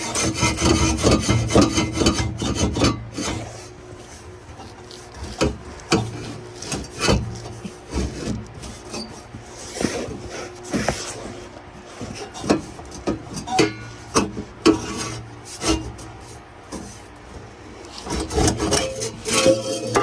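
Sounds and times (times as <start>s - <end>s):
metal scraping: 0.0s - 17.2s, 17.9s - 20.0s.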